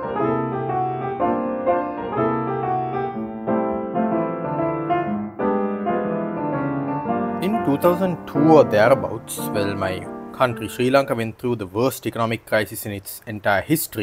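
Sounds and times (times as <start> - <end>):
piano-like keyboard music: 0.0 - 11.4.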